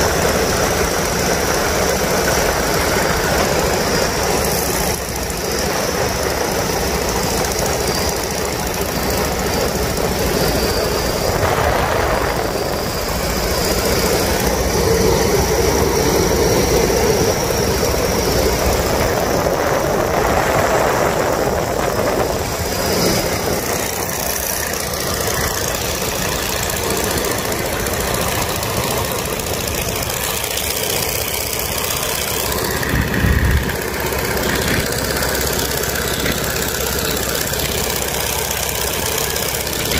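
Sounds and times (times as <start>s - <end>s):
wind rush on microphone: 0.0s - 38.0s
radial aircraft engine running: 0.0s - 39.9s.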